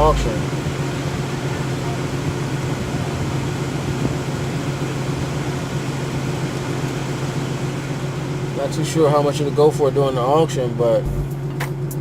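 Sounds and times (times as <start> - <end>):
car air-conditioning fan blowing: 0.0 - 12.0
constant low hum: 0.0 - 12.0.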